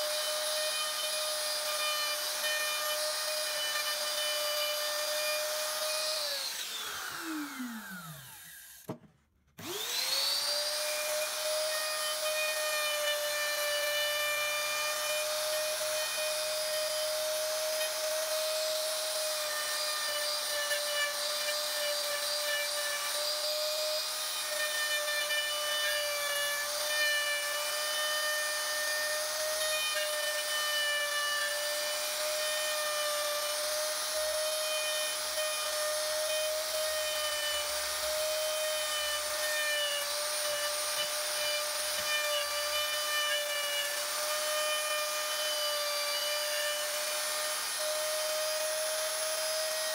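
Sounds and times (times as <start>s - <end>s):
electric router motor whining: 0.0s - 49.9s.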